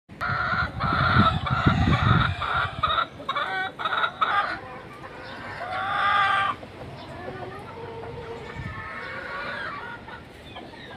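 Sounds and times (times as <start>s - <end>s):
chickens cackling: 0.1s - 10.9s.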